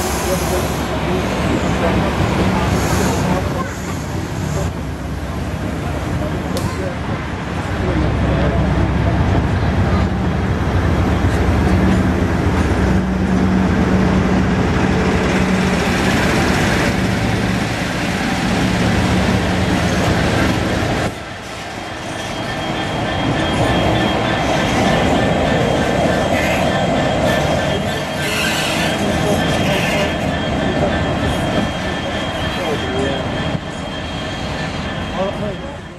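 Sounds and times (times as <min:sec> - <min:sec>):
diesel locomotive engine hum: 0:00.0 - 0:35.9
train carriages rolling past: 0:00.0 - 0:35.9.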